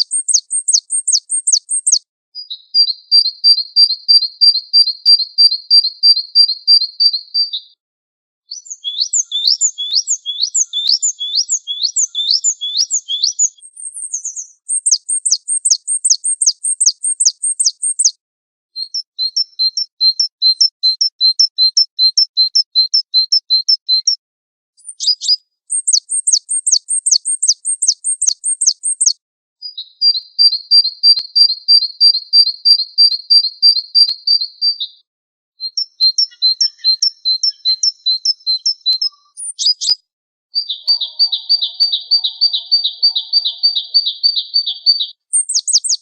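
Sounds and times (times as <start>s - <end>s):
songbird rapid high chirps and trill: 0.0s - 7.6s, 8.5s - 18.2s, 18.8s - 24.2s, 24.8s - 34.9s, 35.6s - 46.0s.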